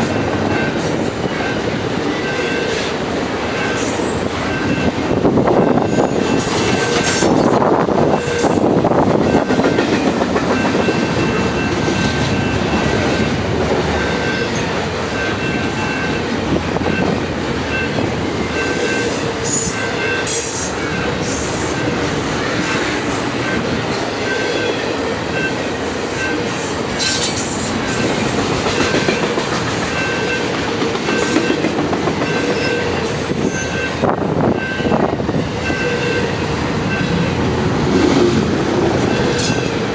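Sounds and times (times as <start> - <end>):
rail clacks: 0.0 - 39.9
train wheels rumbling on rails: 0.0 - 39.9.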